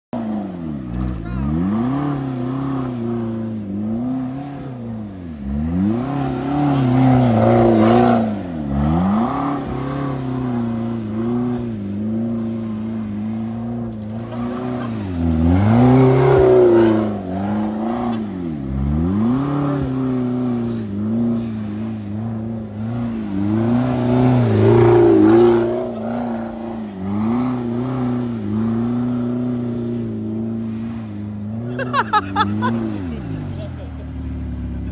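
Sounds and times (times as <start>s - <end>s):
car engine revving hard: 0.2s - 33.7s.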